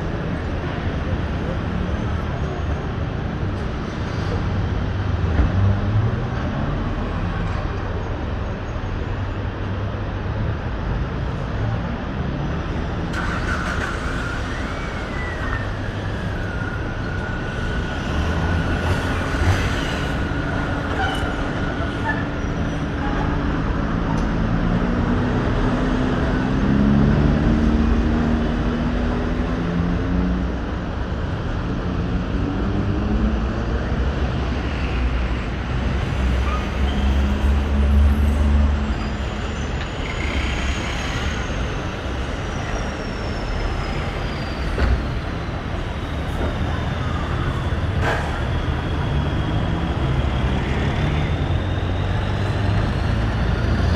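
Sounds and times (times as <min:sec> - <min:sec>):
car engines and tyres: 0:00.0 - 0:53.9.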